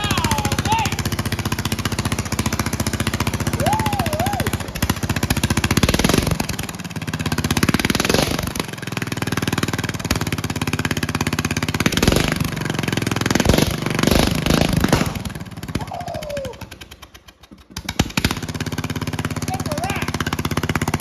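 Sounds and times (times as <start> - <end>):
mower engine revving: 0.0 - 21.0.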